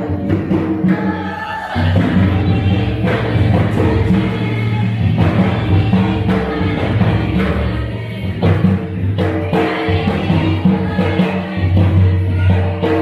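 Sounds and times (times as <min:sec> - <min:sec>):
drum strokes: 0:00.0 - 0:13.0
group singing folk song: 0:00.0 - 0:13.0.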